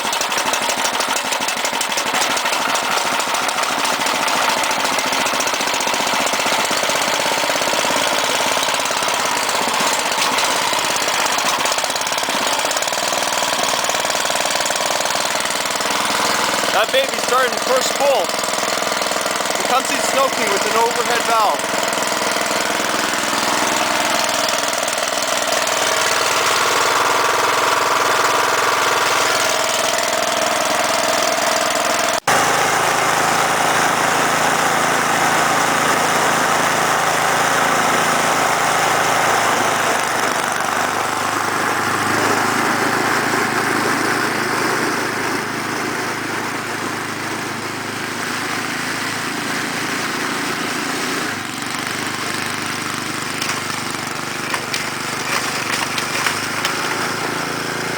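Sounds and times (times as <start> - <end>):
snowblower engine running: 0.0 - 57.9.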